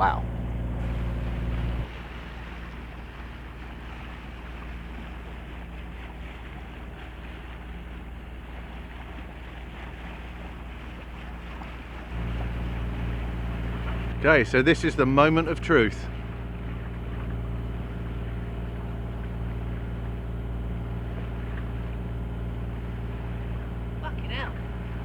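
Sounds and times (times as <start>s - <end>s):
boat engine drone: 0.0s - 25.0s
water rushing: 0.0s - 25.0s.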